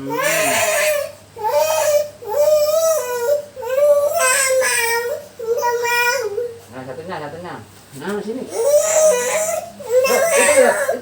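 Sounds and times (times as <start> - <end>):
small child crying: 0.0 - 6.6, 8.6 - 11.0.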